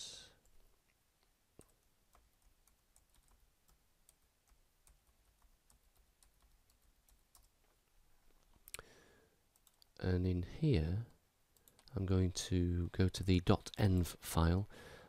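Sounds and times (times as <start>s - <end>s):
faint keyboard typing: 0.3s - 10.0s, 10.9s - 13.9s.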